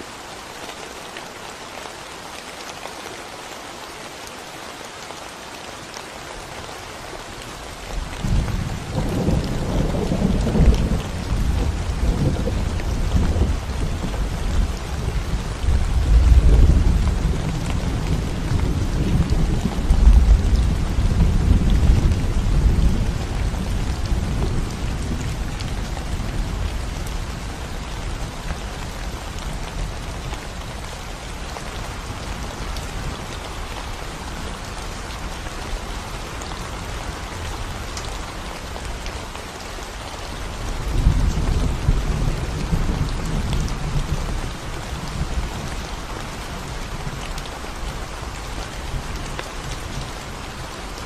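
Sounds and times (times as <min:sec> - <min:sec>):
rain on concrete road: 0:00.0 - 0:51.0.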